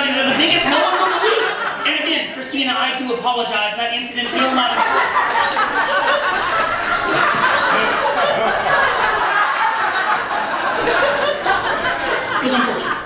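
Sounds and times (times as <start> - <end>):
audience laughing: 0.0 - 2.5, 4.1 - 13.0.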